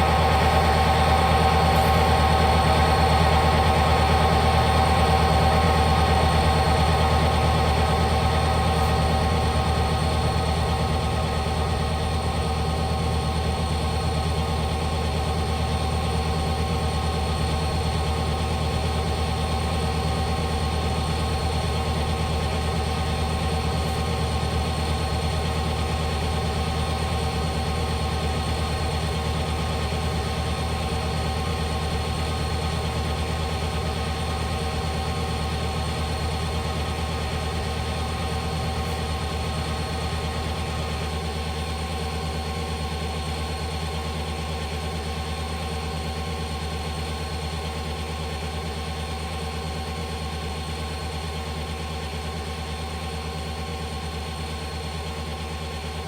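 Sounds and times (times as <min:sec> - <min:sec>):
train diesel rumble: 0:00.0 - 0:56.0.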